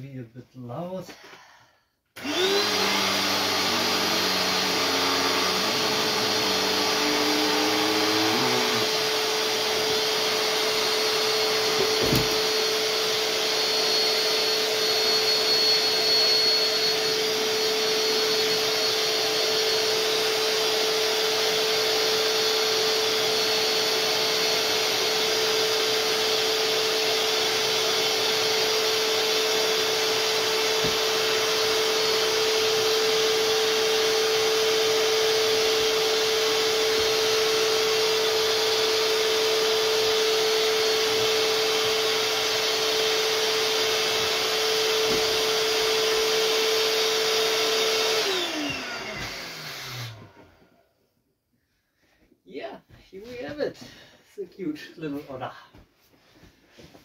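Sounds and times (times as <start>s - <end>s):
electric air pump running: 2.2s - 50.4s.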